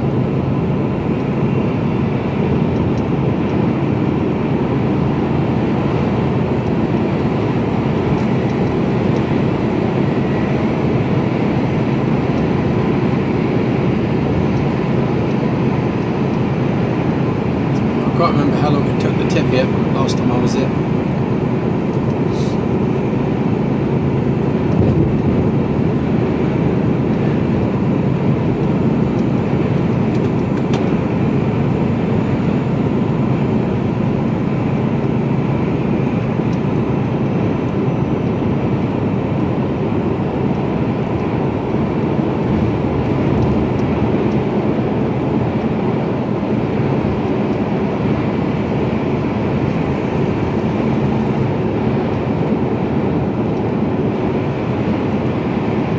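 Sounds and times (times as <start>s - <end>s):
road noise: 0.0s - 55.9s
truck engine drone: 0.0s - 55.9s.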